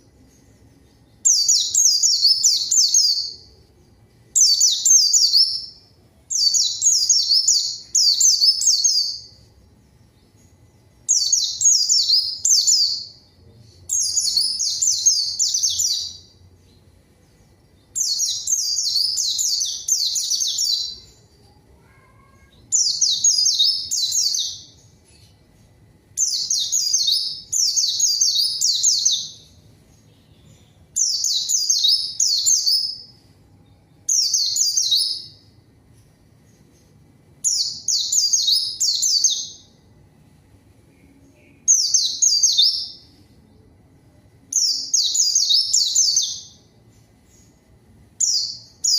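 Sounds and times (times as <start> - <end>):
bird twittering song: 0.0 - 21.5, 22.5 - 35.6, 40.9 - 43.7, 44.5 - 48.9.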